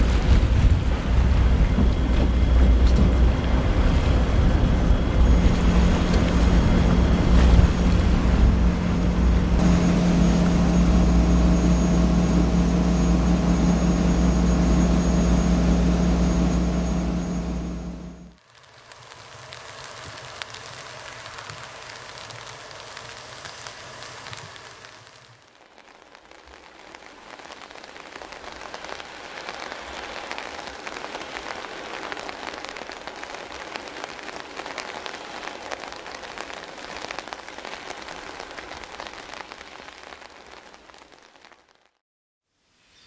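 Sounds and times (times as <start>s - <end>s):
rain pattering: 0.0s - 42.0s.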